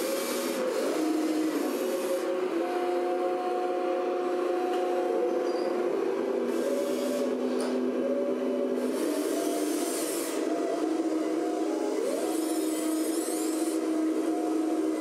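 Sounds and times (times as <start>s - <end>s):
electric hydraulic pumps whining: 0.0s - 15.0s.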